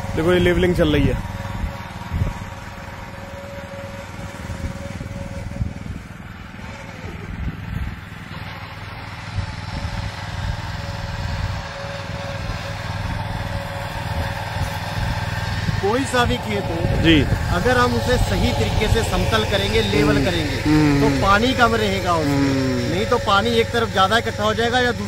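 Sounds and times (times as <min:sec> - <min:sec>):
power weeder engine running: 0:00.0 - 0:25.0.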